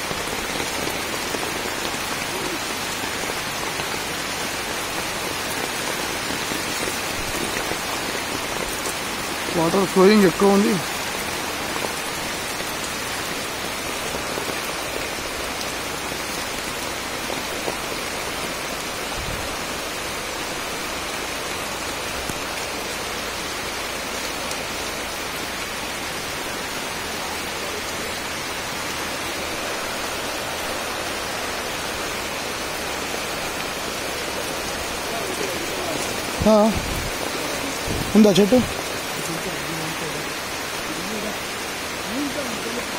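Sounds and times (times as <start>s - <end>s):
heavy rain on leaves: 0.0s - 42.9s
running floodwater: 0.0s - 42.9s.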